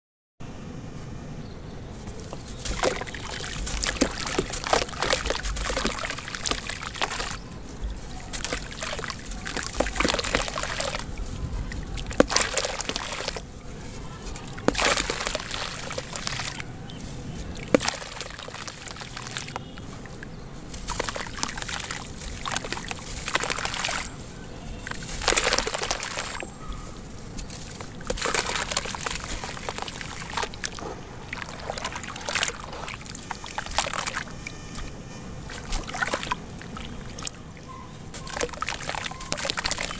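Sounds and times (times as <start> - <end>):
water sloshing and trickling: 1.9 - 39.9
clay block crackling: 2.0 - 34.4.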